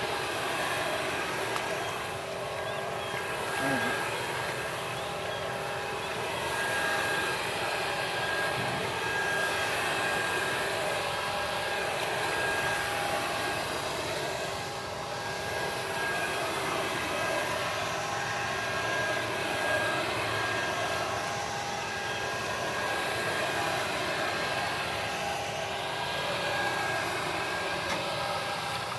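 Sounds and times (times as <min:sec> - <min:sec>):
blower sprayer fan whine: 0:00.0 - 0:28.9.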